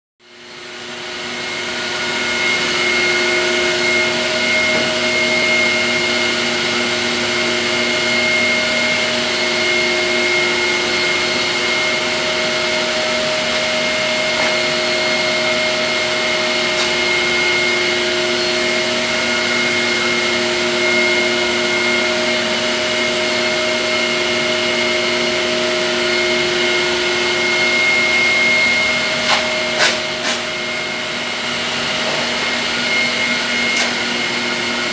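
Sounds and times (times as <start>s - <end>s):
electric blower motor whining: 0.3s - 34.9s.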